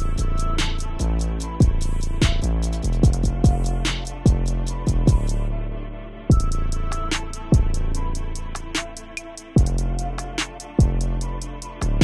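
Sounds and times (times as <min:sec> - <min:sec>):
electronic music with deep kick: 0:00.0 - 0:12.0.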